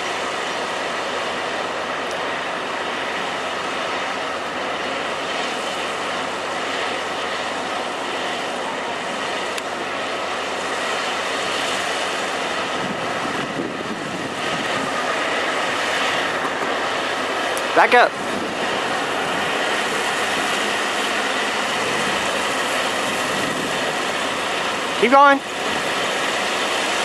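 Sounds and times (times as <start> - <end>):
harvester running: 0.0 - 27.0.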